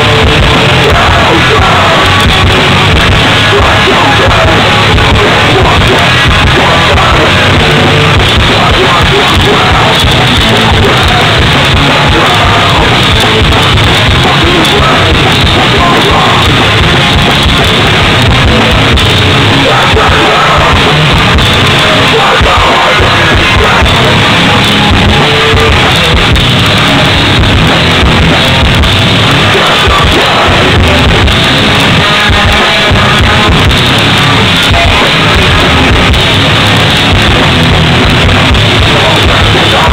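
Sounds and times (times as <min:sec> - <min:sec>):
distorted electric guitars: 0:00.0 - 0:39.9
drums: 0:00.0 - 0:39.9.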